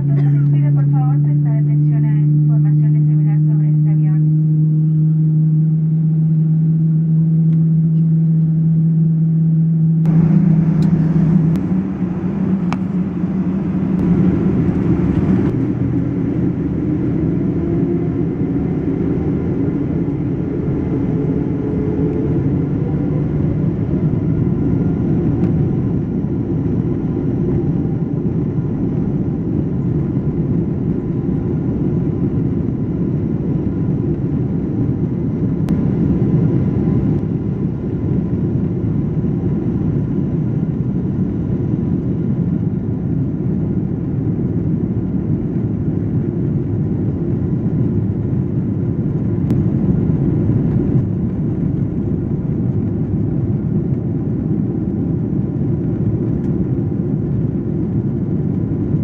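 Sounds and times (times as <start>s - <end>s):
airplane cabin low rush: 0.0s - 59.0s.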